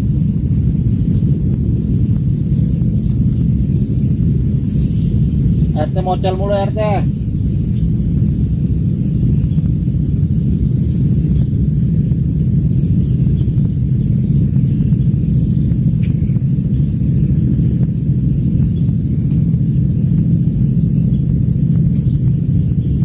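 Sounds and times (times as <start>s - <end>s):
insects droning: 0.0s - 23.0s
low rumble: 0.0s - 23.0s.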